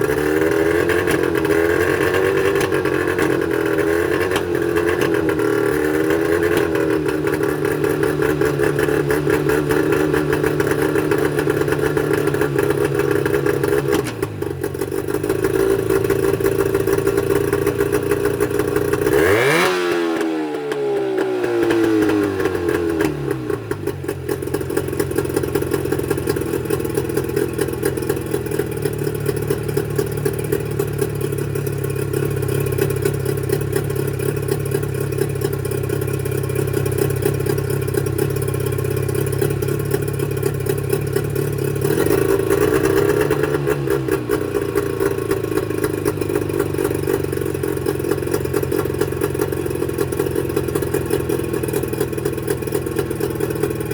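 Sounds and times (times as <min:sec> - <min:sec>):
outboard engine running and revving: 0:00.0 - 0:53.9.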